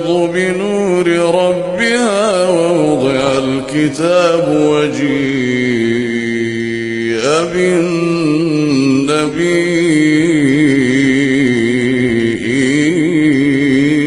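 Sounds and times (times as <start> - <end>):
man chanting in deep voice: 0.0 - 14.0.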